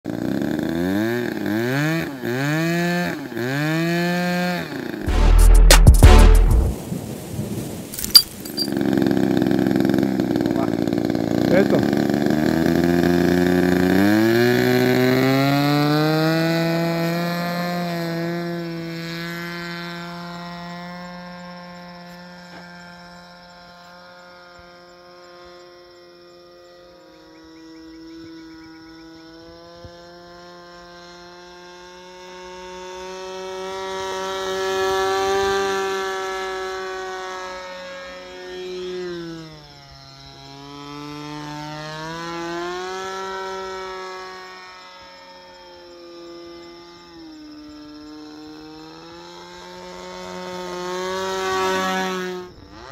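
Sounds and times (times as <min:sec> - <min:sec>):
model plane engine in flight: 0:00.1 - 0:05.1, 0:08.0 - 0:52.9.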